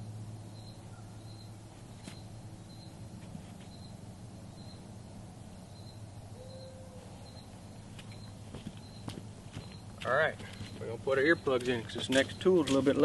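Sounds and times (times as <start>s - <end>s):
cricket chirping: 0.0s - 12.6s
low steady hum: 0.0s - 13.0s.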